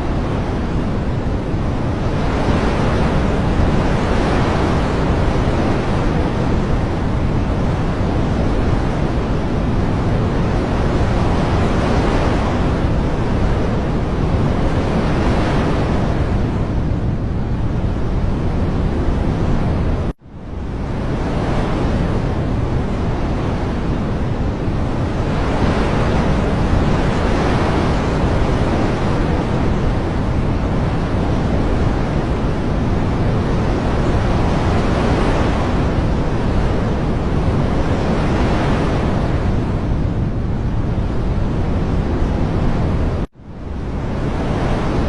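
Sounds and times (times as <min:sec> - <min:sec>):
rushing water: 0:00.0 - 0:20.2, 0:20.9 - 0:45.0.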